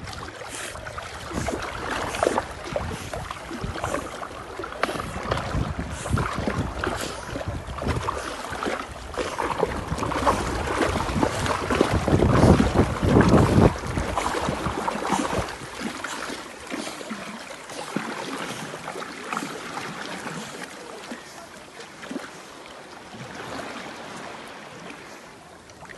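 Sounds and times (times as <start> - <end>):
dog paddling in water: 0.0 - 25.9.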